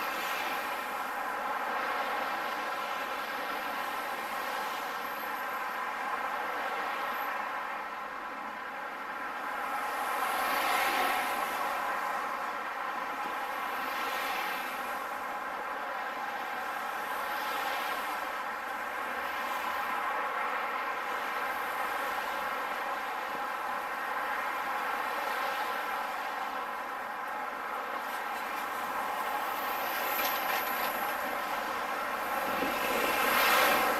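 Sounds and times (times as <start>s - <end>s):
busy road traffic: 0.0s - 33.9s.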